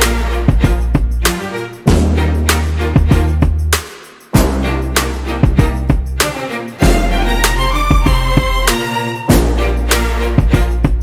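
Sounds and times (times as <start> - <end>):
funk music with heavy bass: 0.0 - 11.0.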